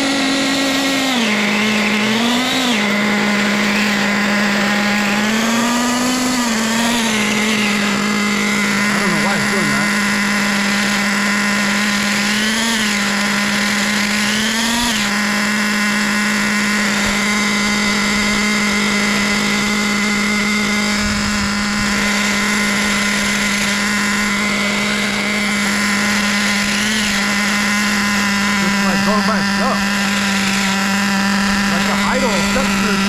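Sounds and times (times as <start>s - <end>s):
model car engine idling high: 0.0s - 33.0s.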